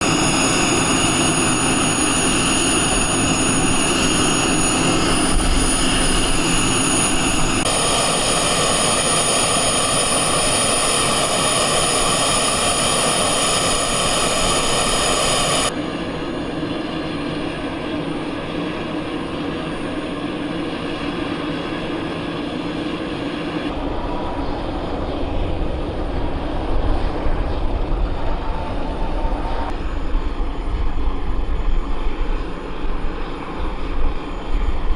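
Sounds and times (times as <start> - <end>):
turbine engines whining: 0.0 - 34.9.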